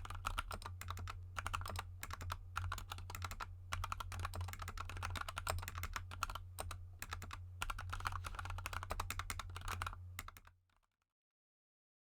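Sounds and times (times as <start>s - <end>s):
steady low hum: 0.0s - 10.3s
mechanical keyboard typing: 0.0s - 10.6s.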